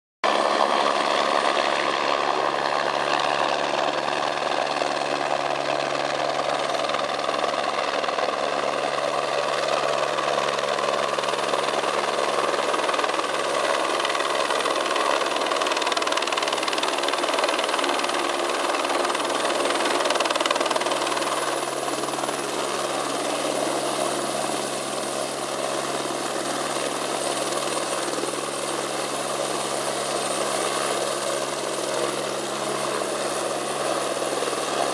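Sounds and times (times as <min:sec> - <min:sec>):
helicopter hovering: 0:00.3 - 0:34.9.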